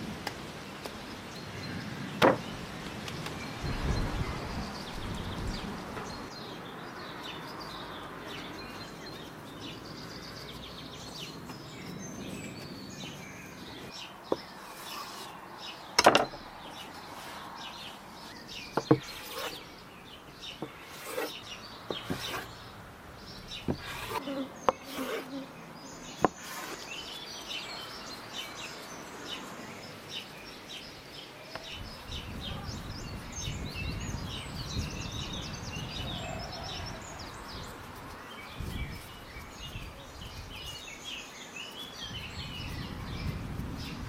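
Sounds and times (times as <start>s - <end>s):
birds chirping: 0.5s - 44.0s.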